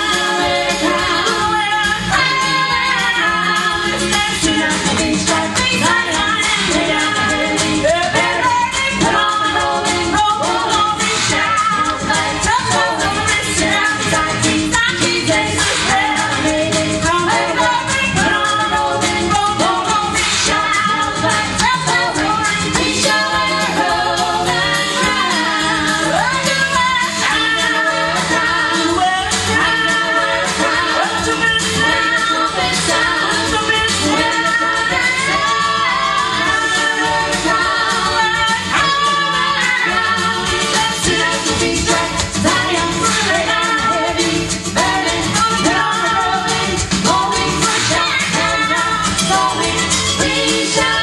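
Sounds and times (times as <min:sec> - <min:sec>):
gospel group singing: 0:00.0 - 0:51.0
instrumental accompaniment with percussion: 0:00.0 - 0:51.0.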